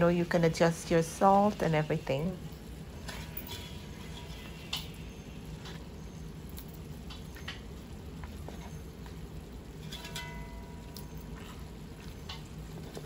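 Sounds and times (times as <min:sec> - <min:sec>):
food frying in oil: 0:00.0 - 0:13.0
steady low hum: 0:00.0 - 0:13.0.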